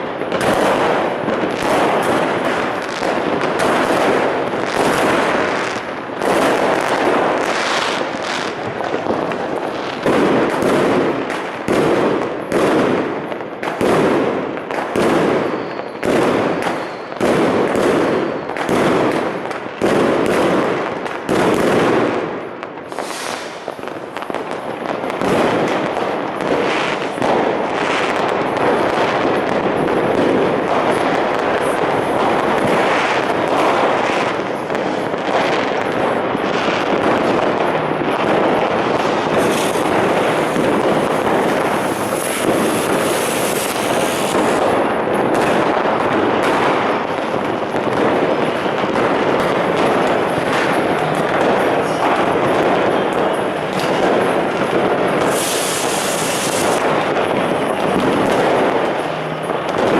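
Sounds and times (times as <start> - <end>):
fireworks and firecrackers banging: 0.0 - 59.9.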